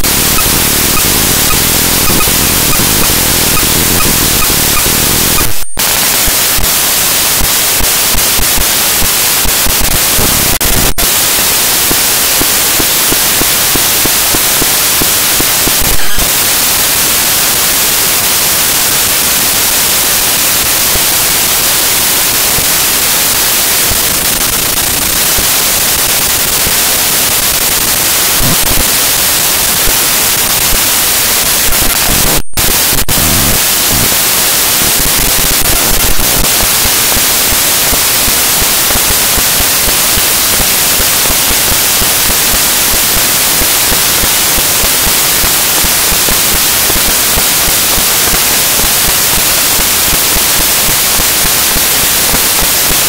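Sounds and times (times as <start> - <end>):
static hiss: 0.0 - 53.0.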